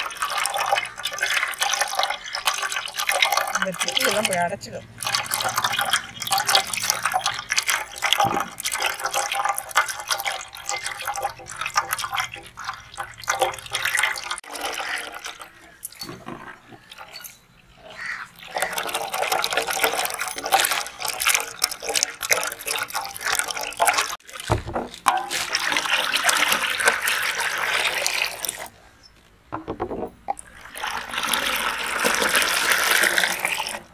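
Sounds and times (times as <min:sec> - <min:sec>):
juice pouring and splashing: 0:00.0 - 0:29.0, 0:30.3 - 0:33.9.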